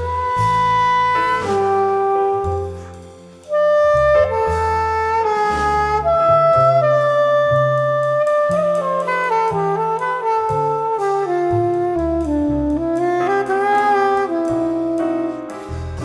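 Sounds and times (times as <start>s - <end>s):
bass notes: 0.0s - 16.0s
jazz saxophone melody: 0.0s - 16.0s.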